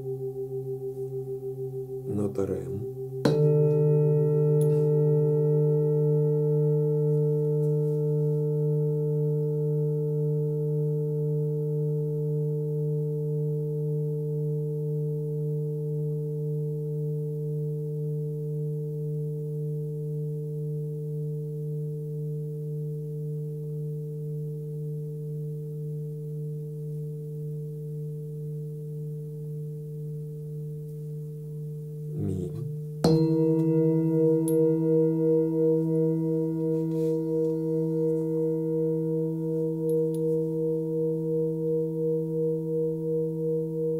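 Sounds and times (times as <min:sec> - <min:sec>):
bowl struck with felt mallet: 0:00.0 - 0:43.9
singing bowl ringing: 0:00.0 - 0:43.9.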